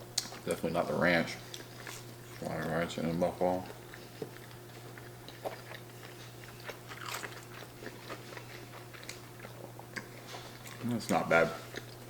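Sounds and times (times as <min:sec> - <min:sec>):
low steady hum: 0:00.0 - 0:12.0
crunchy food chewing: 0:01.4 - 0:12.0.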